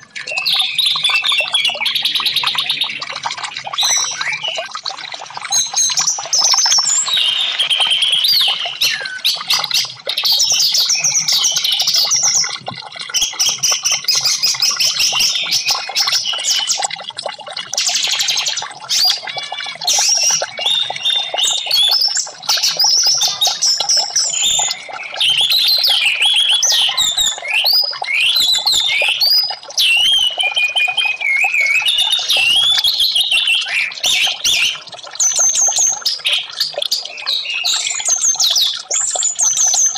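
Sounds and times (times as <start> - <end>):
thrush singing whistled phrases: 0.0 - 17.1, 17.7 - 39.9.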